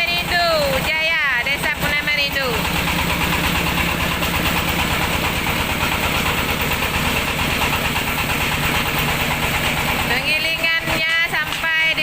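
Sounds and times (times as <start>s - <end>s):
rice mill engine drone: 0.0s - 12.0s.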